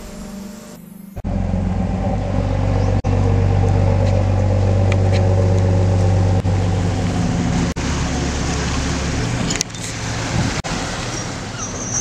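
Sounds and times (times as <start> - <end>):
diesel engine humming: 0.8 - 12.0.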